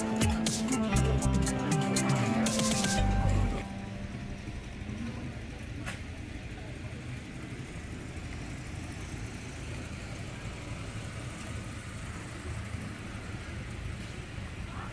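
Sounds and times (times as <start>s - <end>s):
car engines idling: 0.0s - 14.9s
traffic rumble: 0.0s - 14.9s.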